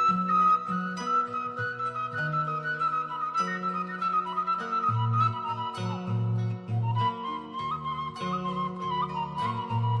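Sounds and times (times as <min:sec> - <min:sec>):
bamboo flute melody: 0:00.0 - 0:10.0.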